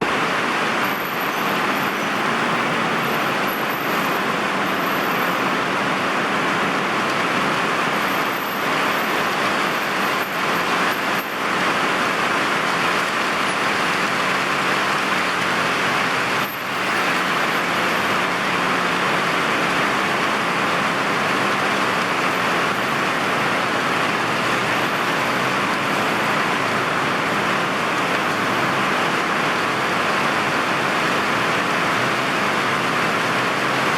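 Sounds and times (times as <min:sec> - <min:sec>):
heavy rain pouring: 0:00.0 - 0:33.9
road traffic: 0:00.0 - 0:33.9.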